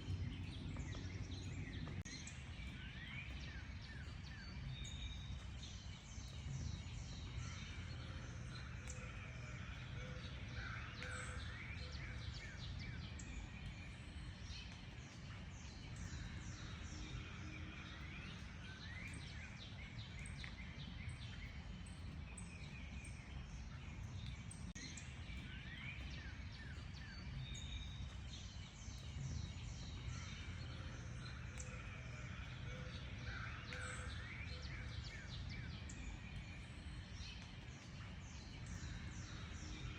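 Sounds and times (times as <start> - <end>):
birds singing and chirping: 0.1 - 39.9.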